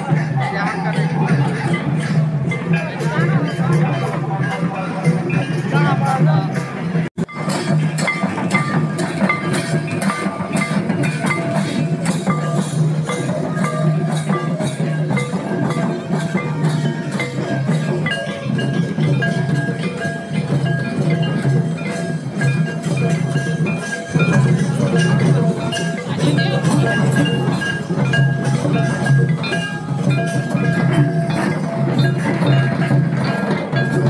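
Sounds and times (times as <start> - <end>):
hand drums beating: 0.0 - 34.0.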